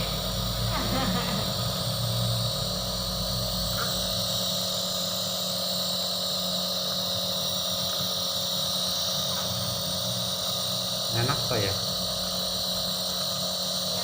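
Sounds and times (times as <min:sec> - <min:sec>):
compressor motor hum with hiss: 0:00.0 - 0:14.0.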